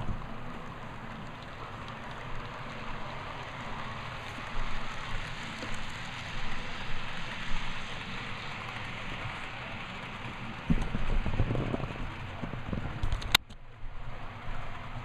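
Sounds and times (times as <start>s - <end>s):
model train cars rolling: 0.0s - 15.0s.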